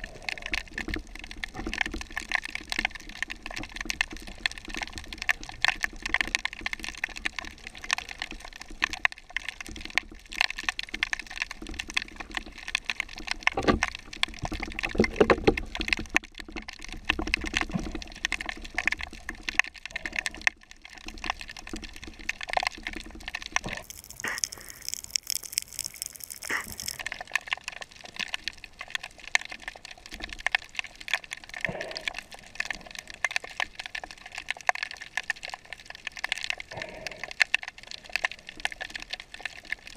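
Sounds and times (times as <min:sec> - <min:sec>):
underwater crackle of clicks: 0:00.0 - 0:39.9.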